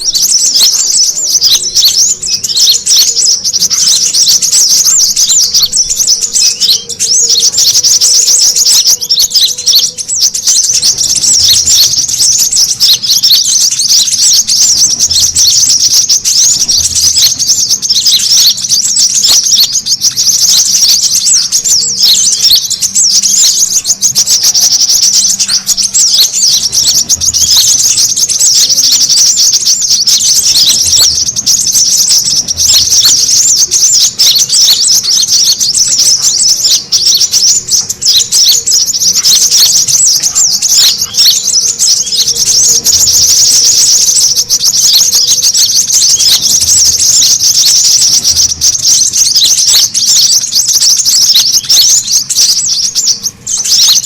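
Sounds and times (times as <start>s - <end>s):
sunbirds chirping and twittering: 0.0s - 54.0s.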